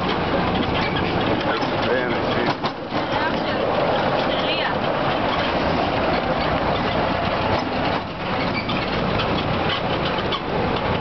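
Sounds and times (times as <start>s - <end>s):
auto rickshaw engine running: 0.0s - 11.0s.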